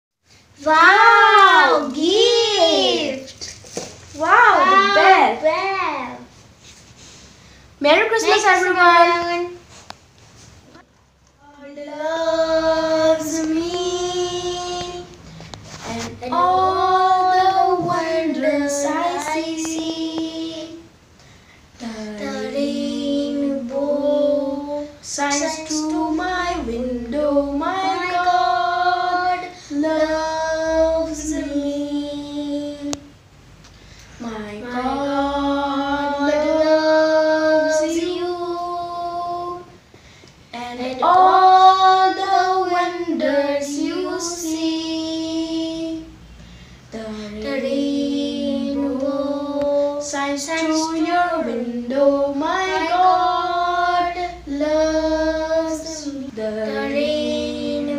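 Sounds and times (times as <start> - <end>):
child singing: 0.6 - 3.4, 4.2 - 6.3, 11.4 - 15.2, 15.8 - 21.0, 21.8 - 33.2, 34.2 - 39.8, 40.5 - 46.2, 46.9 - 57.9.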